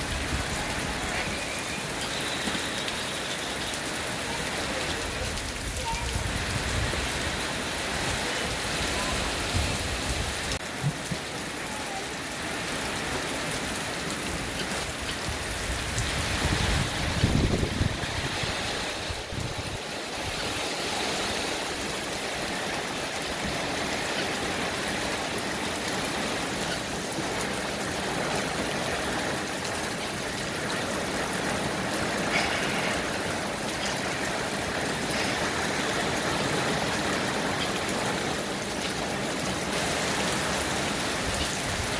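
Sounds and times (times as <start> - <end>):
rain on leaves: 0.0 - 41.9.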